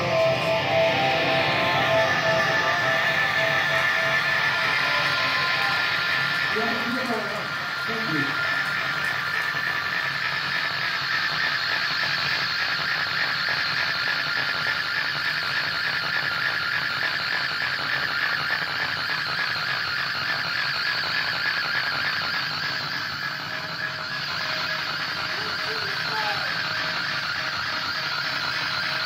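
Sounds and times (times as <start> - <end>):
guitar amplifier noise and feedback: 0.0 - 29.0
high ringing tone: 0.0 - 29.0.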